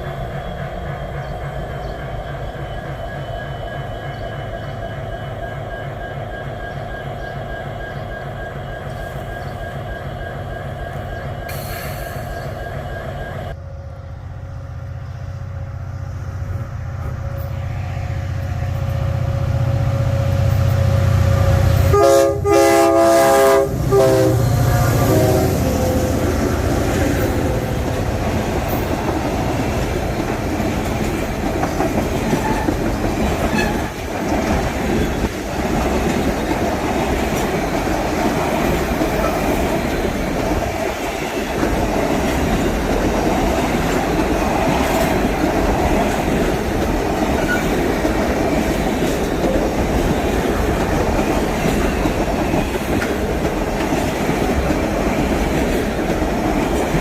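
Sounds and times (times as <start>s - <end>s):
freight train cars rolling past: 0.0s - 57.0s.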